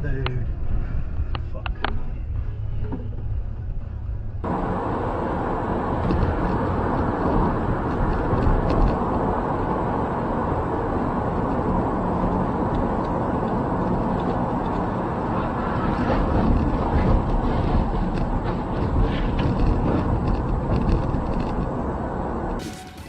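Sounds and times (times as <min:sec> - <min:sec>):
vehicle road noise: 0:00.0 - 0:23.0.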